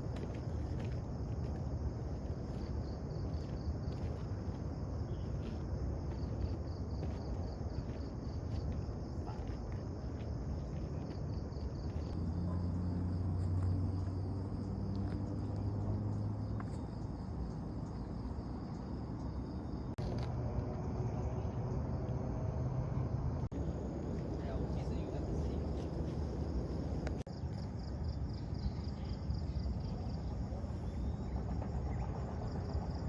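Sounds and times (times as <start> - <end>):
crickets chirring: 0.0 - 33.0
faint outdoor background noise: 0.0 - 33.0.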